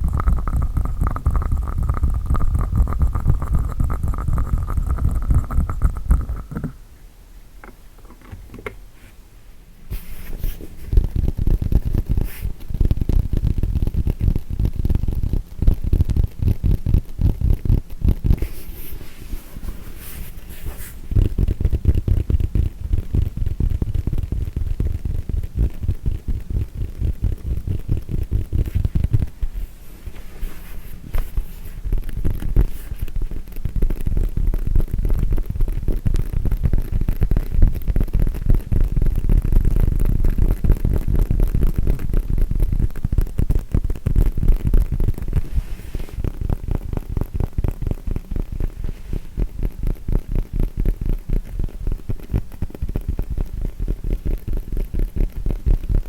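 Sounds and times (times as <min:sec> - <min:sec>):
fast tapping on yoga mat: 0:00.0 - 0:06.8, 0:10.4 - 0:18.7, 0:19.3 - 0:29.6, 0:30.5 - 0:56.0.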